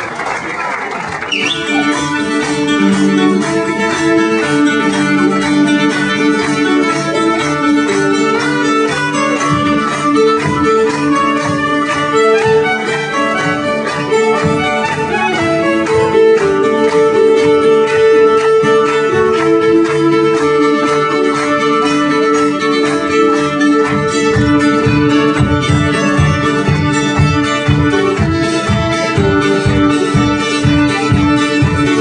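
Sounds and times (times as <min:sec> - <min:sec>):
fiddle: 0:00.0 - 0:32.0
folk band playing dance tune: 0:00.0 - 0:32.0.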